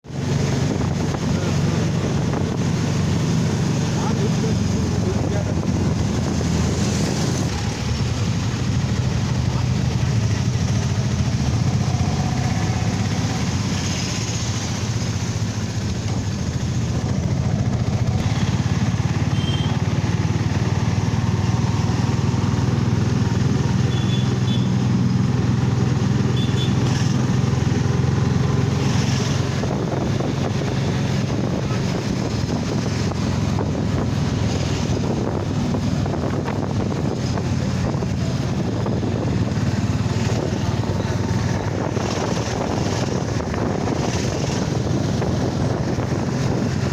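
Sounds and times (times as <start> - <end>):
road and wind noise: 0.0 - 46.9
vehicle engine running: 0.0 - 46.9.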